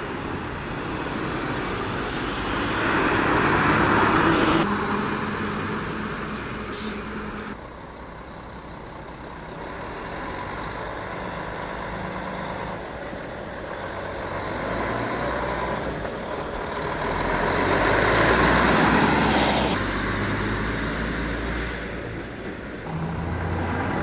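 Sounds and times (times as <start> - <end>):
truck diesel engine driving past: 0.0 - 24.0.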